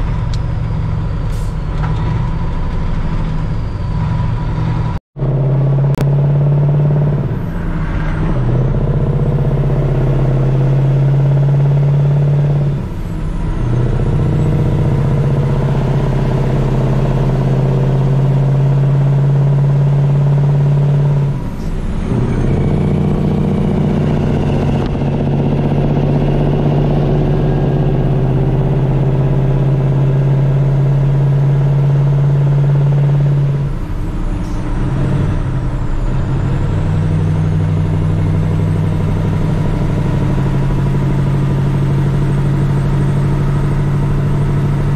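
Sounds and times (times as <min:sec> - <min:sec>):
truck engine droning: 0:00.0 - 0:44.9.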